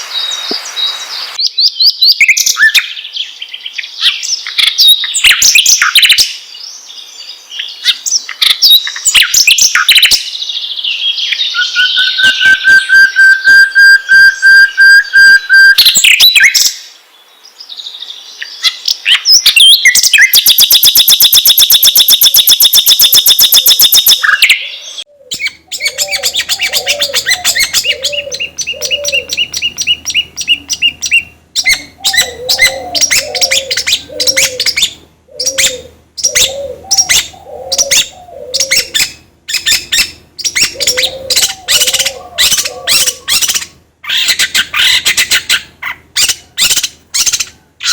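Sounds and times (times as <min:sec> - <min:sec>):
songbird whistles and trills: 0:07.6 - 0:16.8, 0:18.4 - 0:47.9.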